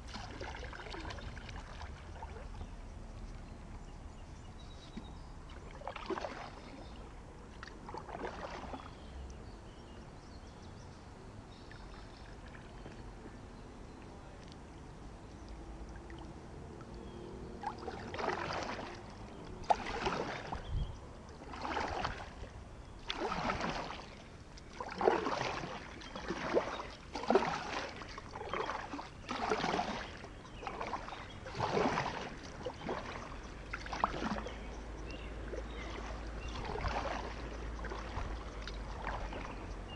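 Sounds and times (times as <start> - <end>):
paddle swishing through water: 0.0 - 39.9.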